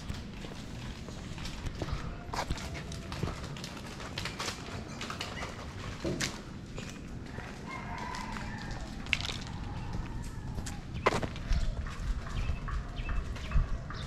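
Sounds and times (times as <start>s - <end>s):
footsteps on concrete: 0.0s - 4.8s, 6.0s - 14.0s.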